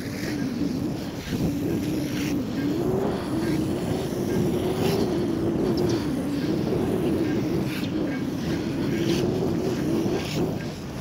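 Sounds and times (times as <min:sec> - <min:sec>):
skate wheels rolling on asphalt: 0:00.0 - 0:11.0.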